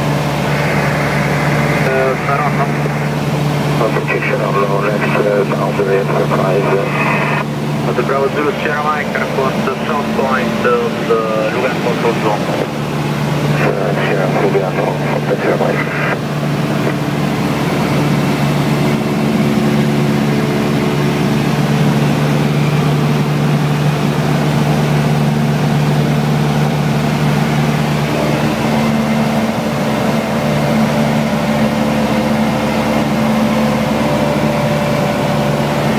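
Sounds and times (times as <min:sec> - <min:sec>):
propeller aircraft engine droning: 0:00.0 - 0:35.9.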